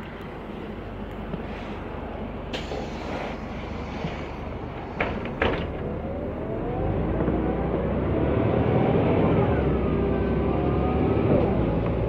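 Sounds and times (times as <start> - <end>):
bus engine speeding up: 2.0 - 12.0.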